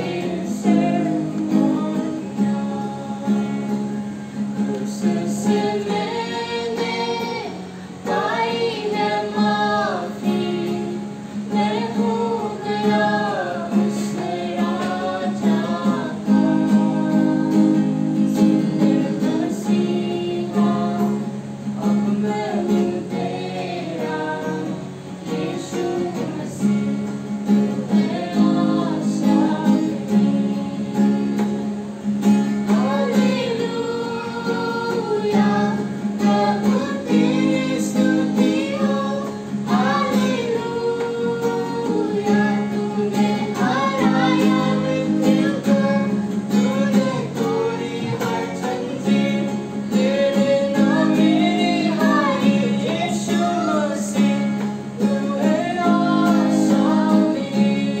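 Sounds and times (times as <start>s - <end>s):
young man singing: 0.0s - 4.0s, 4.7s - 27.0s, 27.7s - 31.5s, 32.6s - 58.0s
woman singing: 0.0s - 31.8s, 32.6s - 58.0s
acoustic guitar strumming chords: 0.0s - 58.0s.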